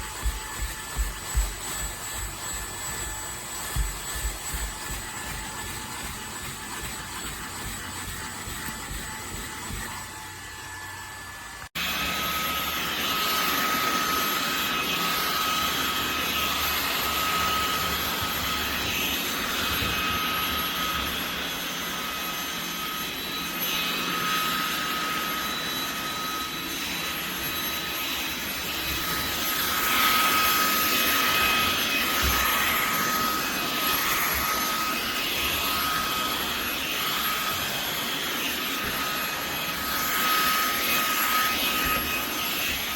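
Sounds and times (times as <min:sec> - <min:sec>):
handheld vacuum running: 0:00.0 - 0:42.9.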